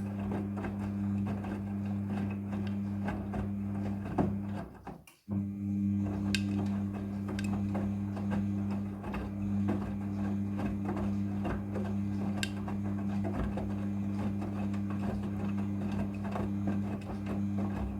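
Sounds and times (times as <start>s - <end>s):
washing machine motor hum: 0.0s - 17.9s.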